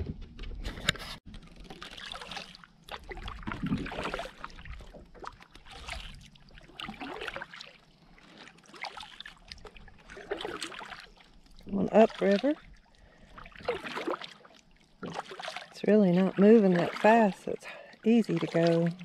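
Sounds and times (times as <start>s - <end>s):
paddle strokes in water: 0.6s - 19.0s.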